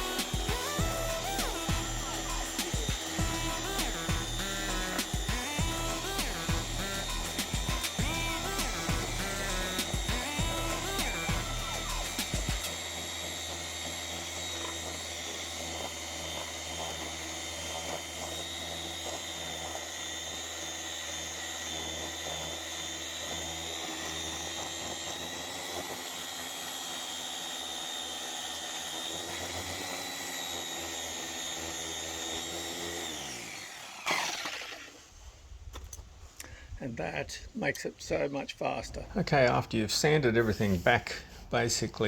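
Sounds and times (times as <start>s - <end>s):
electric orbital sander running: 0.0s - 35.5s.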